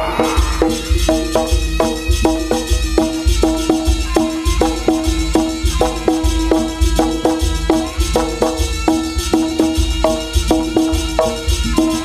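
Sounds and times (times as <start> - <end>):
deep drum beats: 0.0 - 12.0
gamelan ringing metal notes: 0.0 - 12.0.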